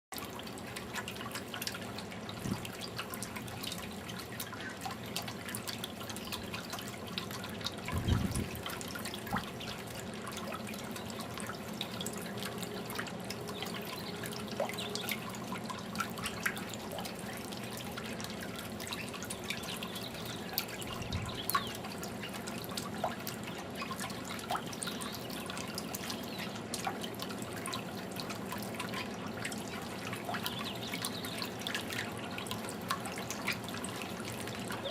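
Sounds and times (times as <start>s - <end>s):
fountain water trickling: 0.1s - 34.9s.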